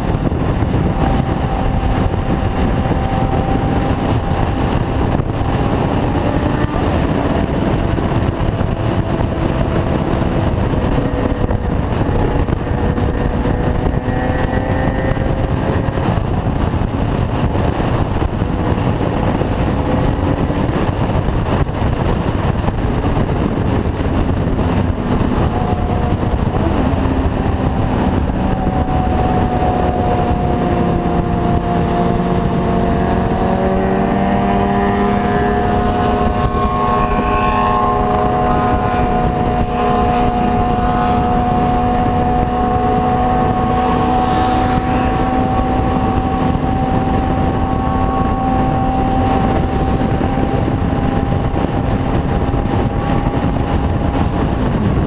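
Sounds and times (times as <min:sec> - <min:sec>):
motorcycle engines running: 0:00.0 - 0:55.0
wind and road noise: 0:00.0 - 0:55.0.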